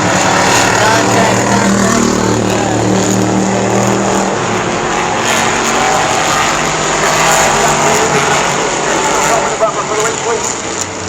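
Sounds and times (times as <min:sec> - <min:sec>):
race car engine passing: 0:00.0 - 0:11.0
race cars running: 0:00.0 - 0:11.0.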